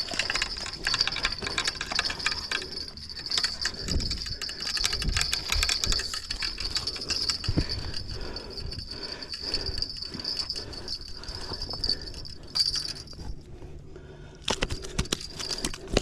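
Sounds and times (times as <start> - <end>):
rapid rattling and clicking: 0.0 - 13.3, 14.4 - 16.0.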